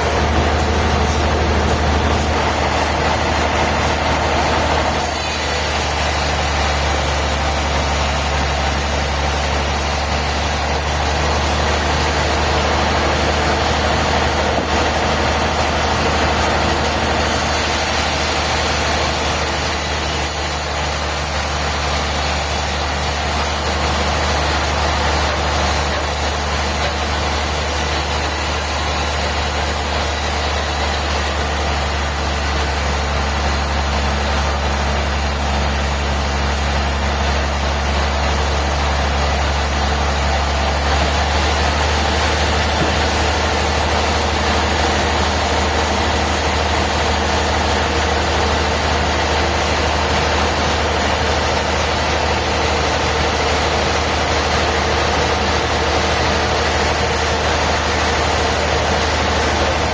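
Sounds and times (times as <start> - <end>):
heavy machinery humming: 0.0 - 59.9.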